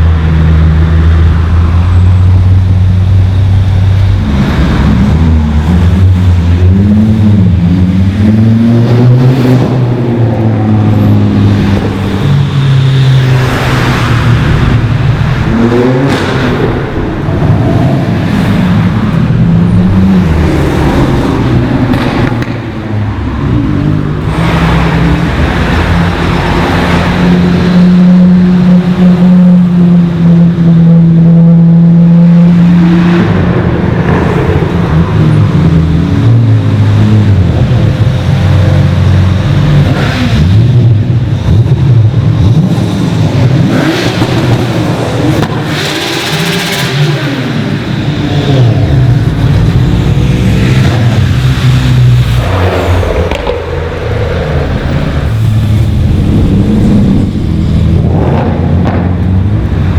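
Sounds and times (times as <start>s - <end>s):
cars revving and accelerating past: 0.0s - 59.9s.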